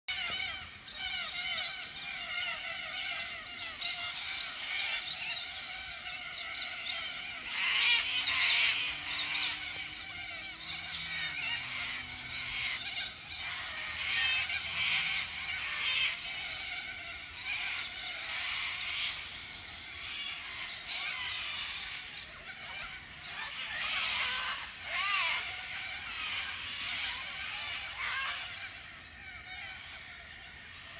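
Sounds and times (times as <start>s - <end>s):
birds chirping and squawking: 0.1s - 30.9s.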